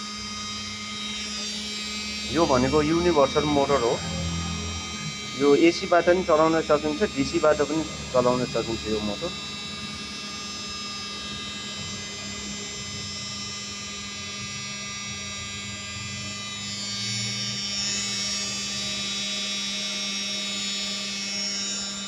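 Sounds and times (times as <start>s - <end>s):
washing machine motor whining: 0.0s - 22.0s.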